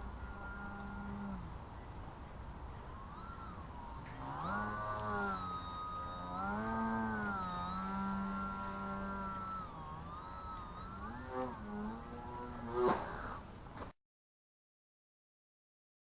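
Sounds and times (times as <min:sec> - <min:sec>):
model plane propeller buzzing: 0:00.0 - 0:13.6
thin high whine: 0:00.0 - 0:13.9.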